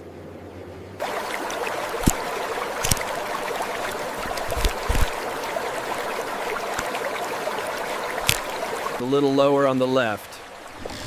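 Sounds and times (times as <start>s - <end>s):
running water rushing: 1.0s - 11.0s.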